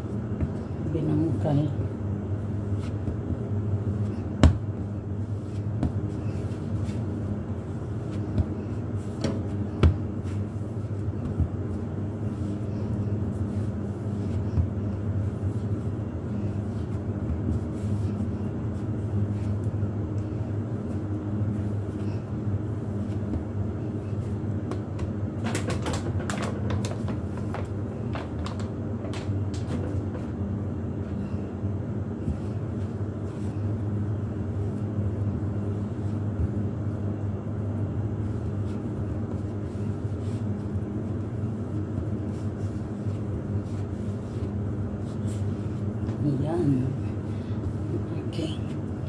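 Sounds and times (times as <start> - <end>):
dough kneaded by hand: 0.0 - 49.0
steady low hum: 0.0 - 49.0.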